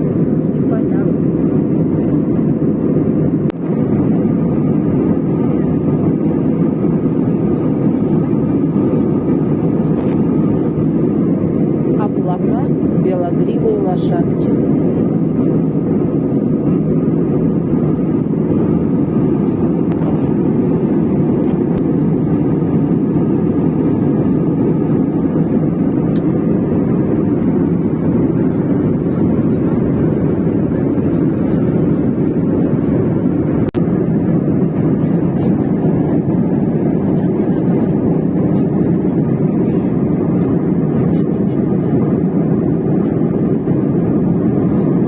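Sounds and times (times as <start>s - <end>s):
airliner cabin engine noise: 0.0s - 45.0s.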